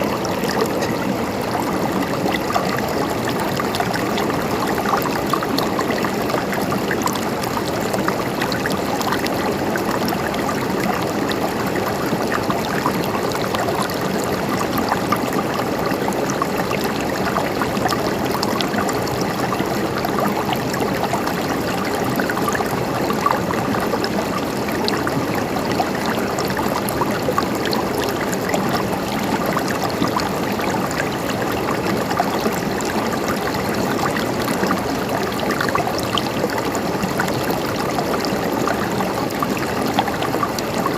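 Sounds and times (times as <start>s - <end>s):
running water trickling: 0.0s - 40.9s
water splashing and gurgling: 0.0s - 40.9s.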